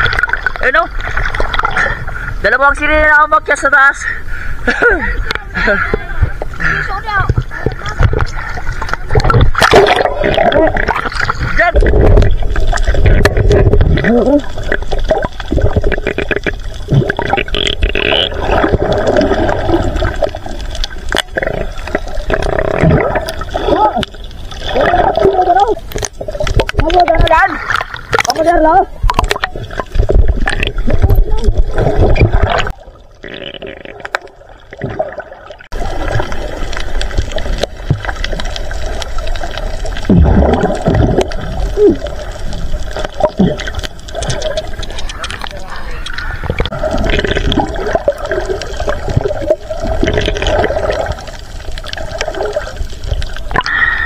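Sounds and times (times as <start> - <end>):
underwater churning and bubbling: 0.0 - 54.0.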